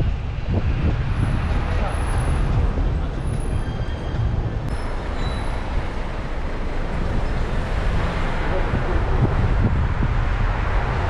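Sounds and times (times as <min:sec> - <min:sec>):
wind rumble on microphone: 0:00.0 - 0:04.8, 0:05.7 - 0:11.0
bus running close by: 0:00.0 - 0:11.0
city street traffic: 0:00.0 - 0:11.0.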